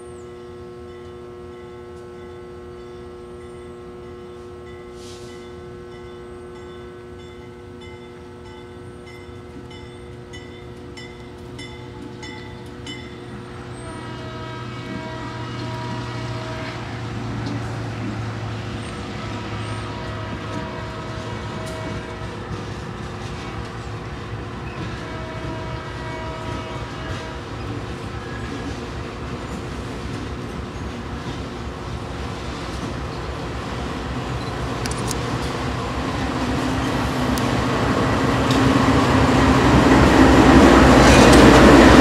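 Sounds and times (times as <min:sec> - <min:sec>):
diesel locomotive rumble: 0:00.0 - 0:42.0.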